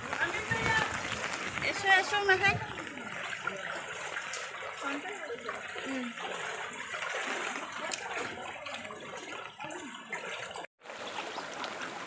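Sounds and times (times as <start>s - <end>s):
water sloshing around wading person: 0.0s - 12.0s.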